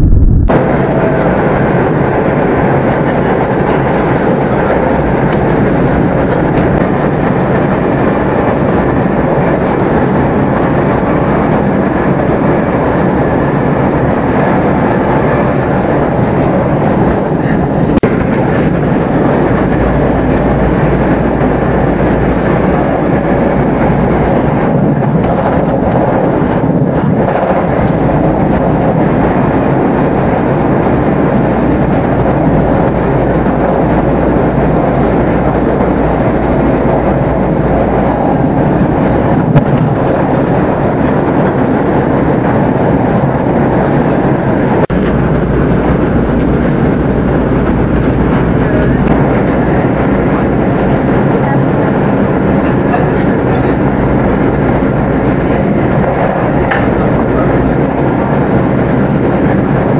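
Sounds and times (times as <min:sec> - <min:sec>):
train wheels on rail: 0:00.1 - 0:59.9.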